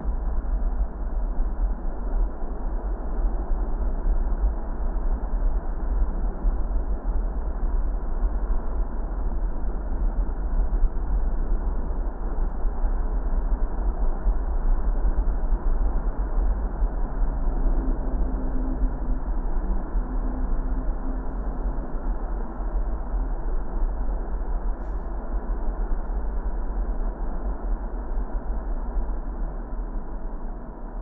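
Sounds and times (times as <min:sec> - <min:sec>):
faint humming tone: 0:00.0 - 0:31.0.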